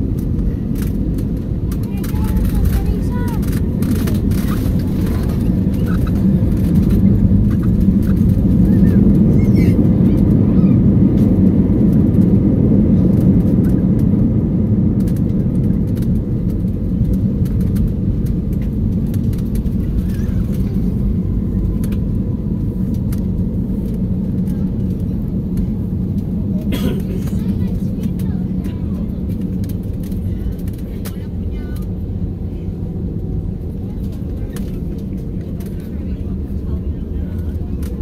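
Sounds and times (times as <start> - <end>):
jet engines and wheels rumbling: 0.0 - 38.0.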